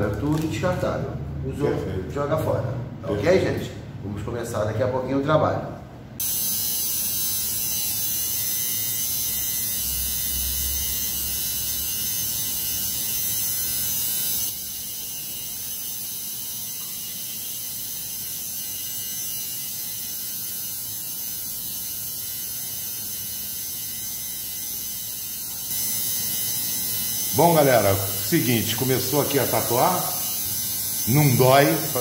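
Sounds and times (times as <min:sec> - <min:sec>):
tattoo machine buzzing: 0:06.2 - 0:32.0.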